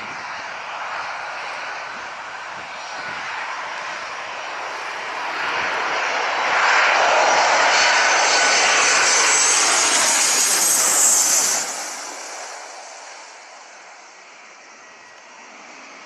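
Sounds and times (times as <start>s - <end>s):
high engine whine: 0.0s - 16.0s
jet engines at high thrust: 0.0s - 16.0s.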